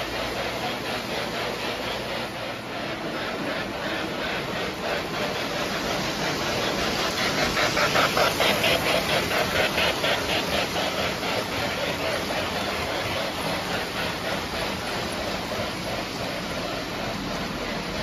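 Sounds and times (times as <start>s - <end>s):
model train wheels and motors rumbling: 0.0s - 18.0s.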